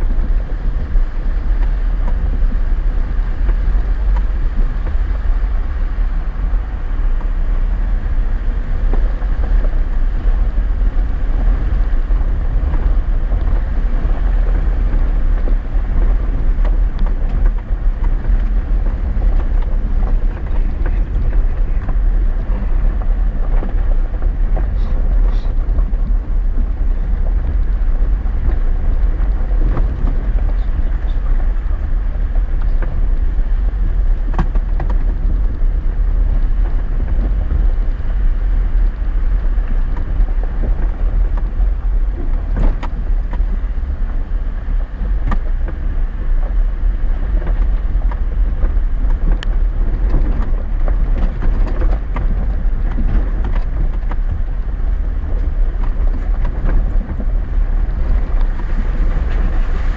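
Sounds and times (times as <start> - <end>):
engine and tyres rumbling: 0.0 - 59.9.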